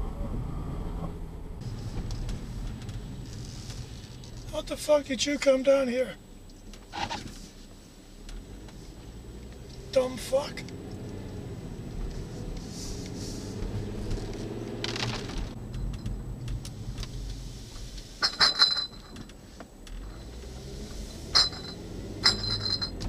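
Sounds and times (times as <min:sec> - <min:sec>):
car engine and road hum: 0:00.0 - 0:23.0.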